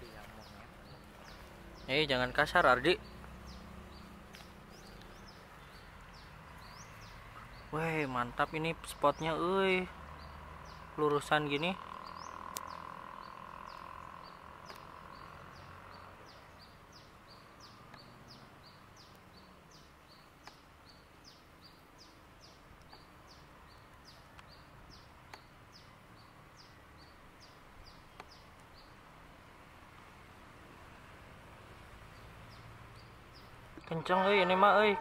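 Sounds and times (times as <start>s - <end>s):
bird chirping: 0.0s - 35.0s
outdoor background noise: 0.0s - 35.0s.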